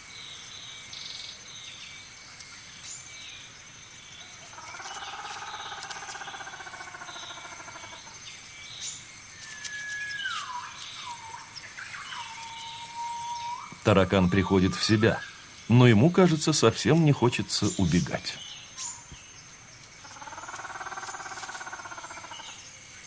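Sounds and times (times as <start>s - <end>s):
high insect trill: 0.0s - 23.0s
bird chirps: 4.1s - 22.7s.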